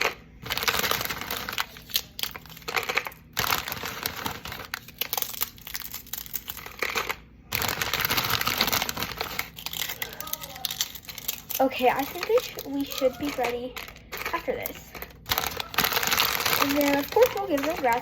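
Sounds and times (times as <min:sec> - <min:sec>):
snack bag crinkling: 0:00.0 - 0:18.0.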